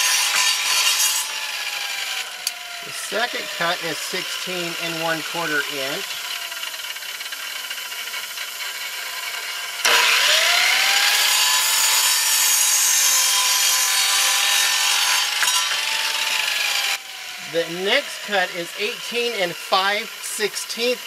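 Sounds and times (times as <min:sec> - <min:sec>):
saw blade cutting wood: 0:00.0 - 0:21.0
saw motor whine: 0:00.0 - 0:21.0.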